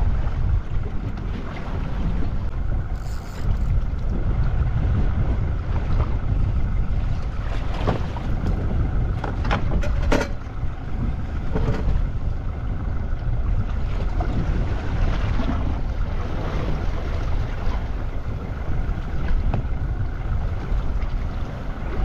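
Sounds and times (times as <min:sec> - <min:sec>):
choppy sea water: 0:00.0 - 0:22.0
wind buffeting microphone: 0:00.0 - 0:22.0.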